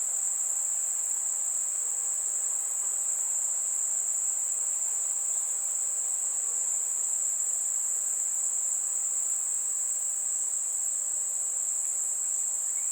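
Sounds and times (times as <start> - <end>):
faint night ambience: 0.0 - 12.9.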